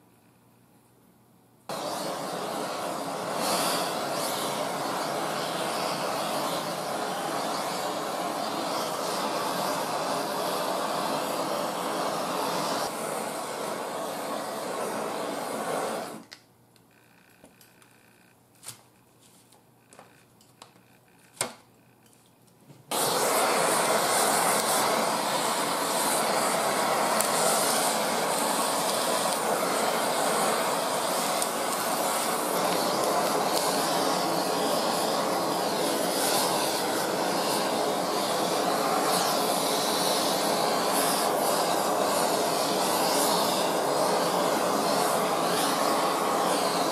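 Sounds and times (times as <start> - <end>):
blowtorch flame roaring: 1.7 - 16.3, 22.9 - 46.9.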